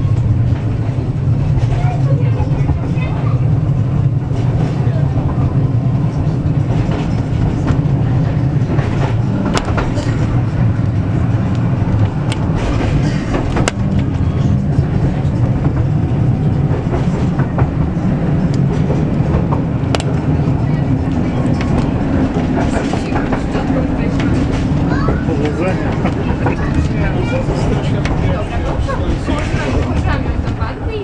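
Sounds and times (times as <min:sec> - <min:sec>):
tram wheels rumbling on rails: 0:00.0 - 0:31.0.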